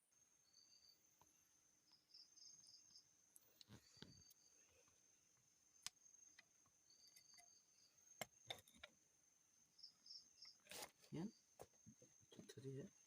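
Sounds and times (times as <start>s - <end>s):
faint cricket chirping: 0.0s - 13.0s
high insect trill: 1.8s - 3.2s, 3.8s - 13.0s.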